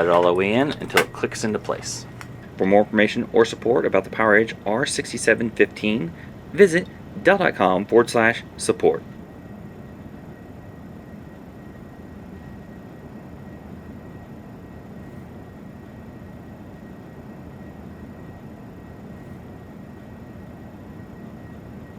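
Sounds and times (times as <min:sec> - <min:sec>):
low hum and hiss: 0:00.0 - 0:21.9.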